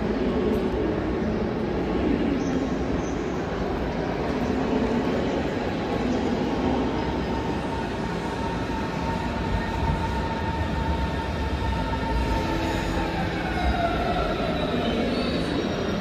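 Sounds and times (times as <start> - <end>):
electric train approaching: 0.0 - 16.0
station hall din: 0.0 - 16.0.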